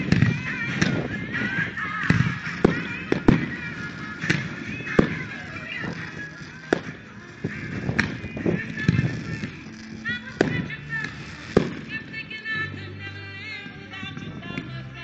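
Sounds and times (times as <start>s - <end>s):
fireworks bursting: 0.0s - 15.0s
music soundtrack: 0.0s - 15.0s.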